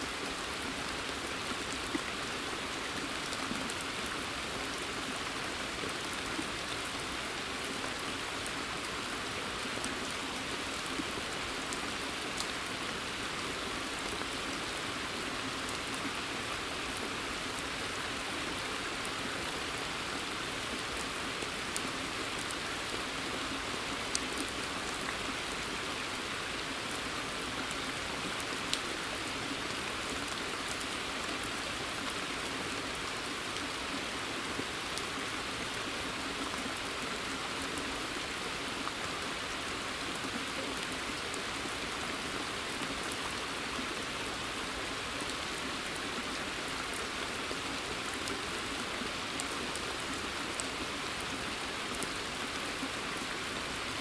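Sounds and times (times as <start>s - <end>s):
rain falling in forest: 0.0s - 54.0s.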